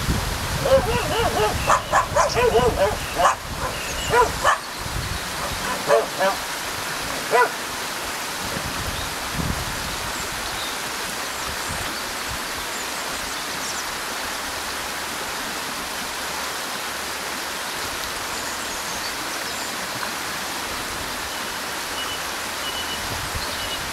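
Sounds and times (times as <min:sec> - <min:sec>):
river rushing over stones: 0:00.0 - 0:23.9.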